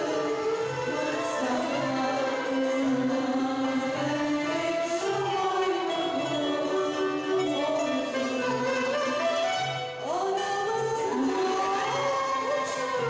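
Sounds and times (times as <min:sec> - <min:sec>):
violin melody: 0:00.0 - 0:13.0.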